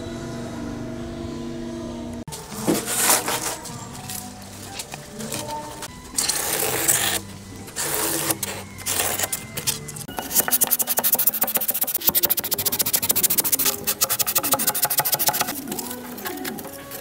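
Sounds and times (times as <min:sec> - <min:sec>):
background music: 0:00.0 - 0:17.0
scraping on a hard surface: 0:02.4 - 0:17.0.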